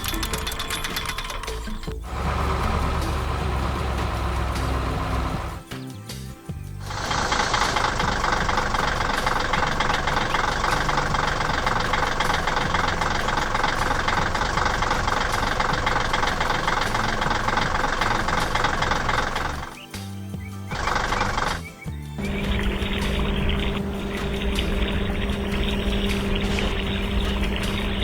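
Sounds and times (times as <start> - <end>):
excavator engine running: 0.0 - 5.8, 6.7 - 20.0, 20.7 - 28.0.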